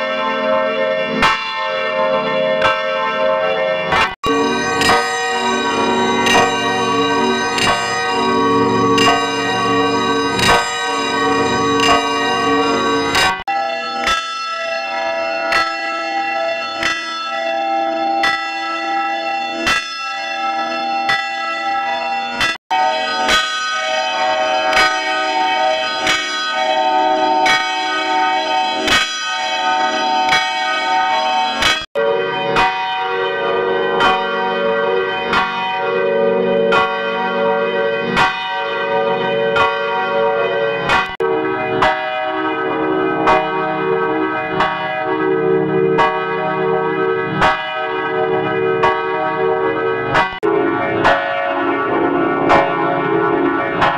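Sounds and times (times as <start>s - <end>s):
church bell ringing: 0.0s - 53.9s.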